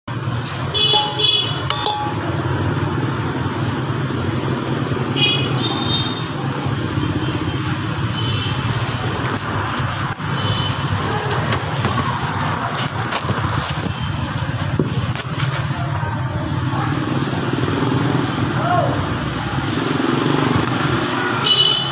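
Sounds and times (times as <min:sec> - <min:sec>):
traffic rumble: 0:00.1 - 0:21.9.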